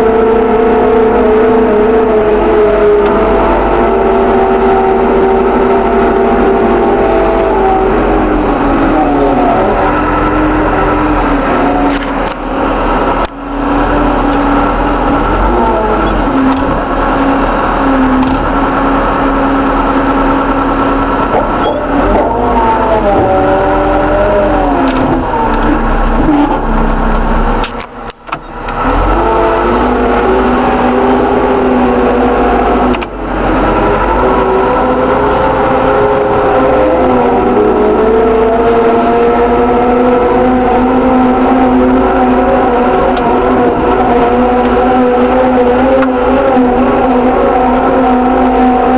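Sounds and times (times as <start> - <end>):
diesel engine running loud: 0.0 - 48.9.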